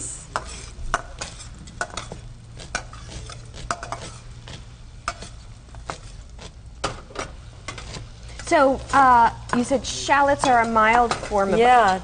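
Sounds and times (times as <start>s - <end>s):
onions sizzling in a frying pan: 0.0s - 12.0s.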